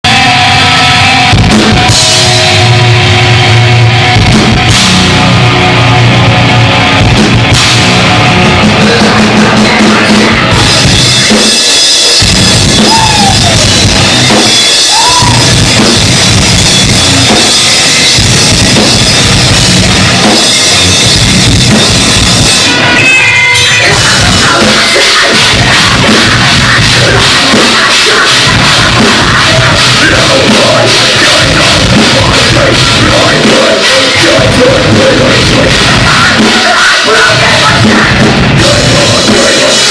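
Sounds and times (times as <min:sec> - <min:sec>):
drum kit pounding: 0:00.0 - 0:39.9
heavy guitars: 0:00.0 - 0:39.9.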